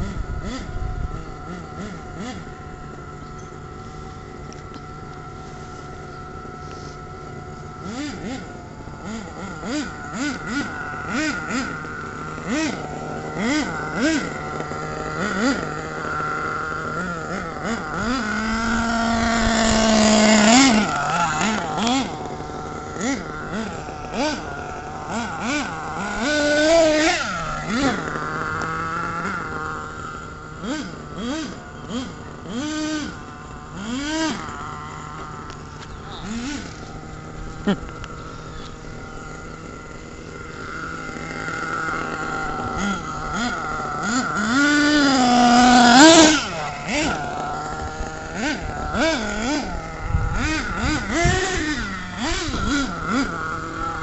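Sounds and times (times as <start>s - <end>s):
rc truck motor whirring: 0.0s - 54.0s.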